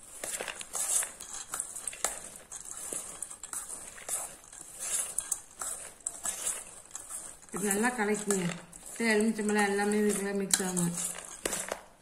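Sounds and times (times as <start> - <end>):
spoon tossing salad: 0.0 - 12.0.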